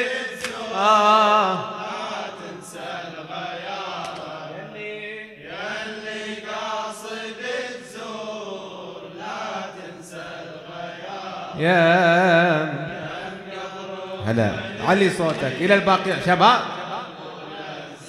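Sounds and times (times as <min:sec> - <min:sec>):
crowd chanting in unison: 0:00.0 - 0:18.0.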